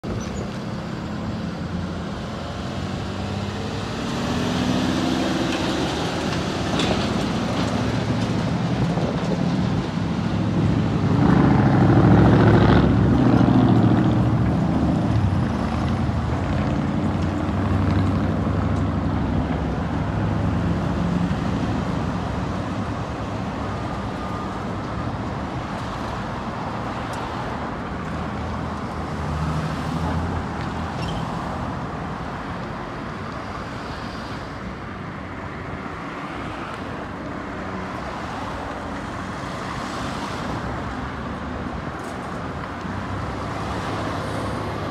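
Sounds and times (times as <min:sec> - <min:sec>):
cars driving past: 0:00.0 - 0:44.9.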